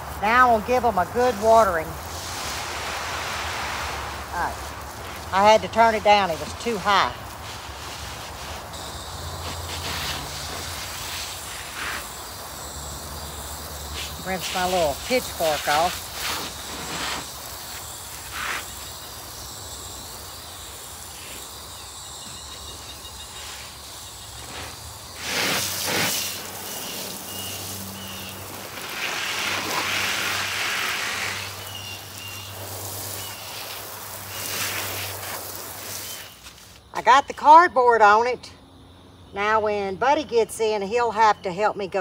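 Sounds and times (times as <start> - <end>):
hose nozzle spraying water: 0.0 - 36.8.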